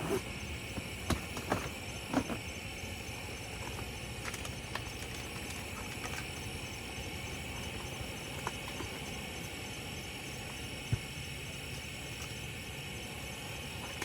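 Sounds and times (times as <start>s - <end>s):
insects trilling: 0.0s - 14.0s
rapid pulsing chirp: 1.8s - 14.0s.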